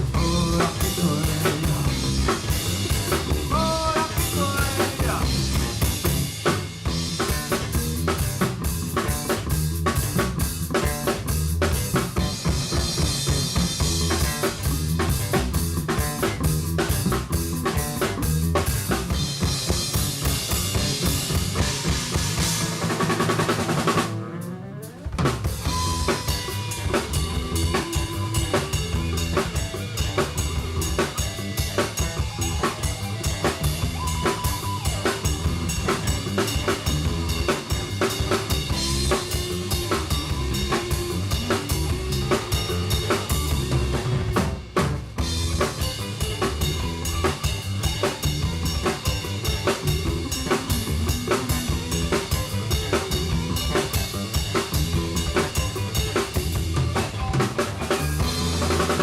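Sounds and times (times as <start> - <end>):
live rock band playing: 0.0 - 59.0
loud drum kit: 0.0 - 59.0.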